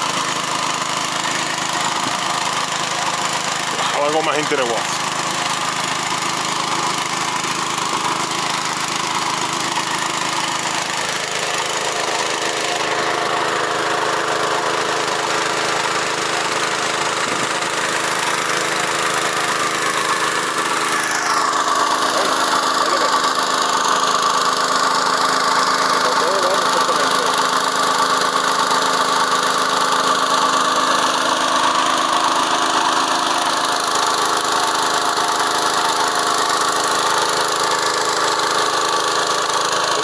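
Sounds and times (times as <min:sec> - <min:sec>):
motor pump engine running: 0:00.0 - 0:40.0
two-wheel tractor engine: 0:00.0 - 0:40.0.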